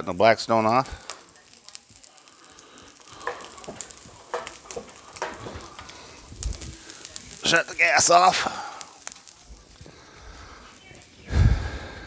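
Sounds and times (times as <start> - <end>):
fried rice sizzling on a griddle: 0.0 - 12.0.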